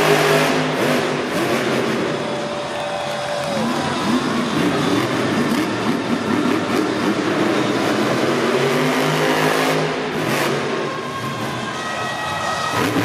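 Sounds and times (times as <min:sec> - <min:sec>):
truck engine revving: 0:00.0 - 0:11.5
loud crowd: 0:00.0 - 0:13.0.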